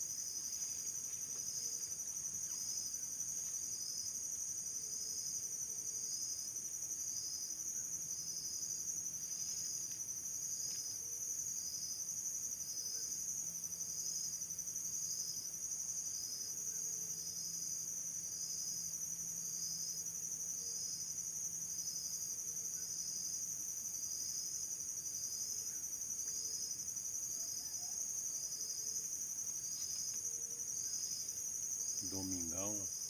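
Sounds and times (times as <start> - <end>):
insect pulsed chirp: 0.0 - 33.0
insects trilling: 0.0 - 33.0.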